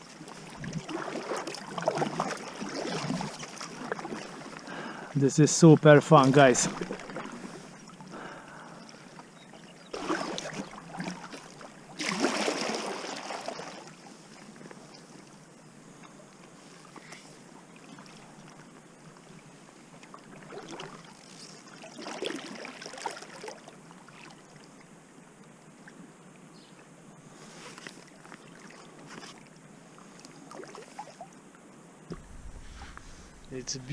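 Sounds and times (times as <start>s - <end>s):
kayak paddle splashing water: 0.0s - 5.2s, 6.0s - 15.2s, 16.5s - 24.7s, 27.4s - 31.3s, 32.1s - 33.9s
soft water hiss: 0.0s - 33.9s.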